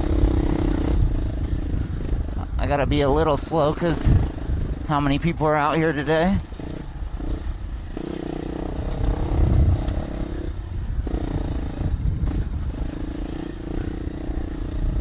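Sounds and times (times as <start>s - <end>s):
low rumble: 0.0s - 15.0s
motorcycle engine running: 0.0s - 15.0s.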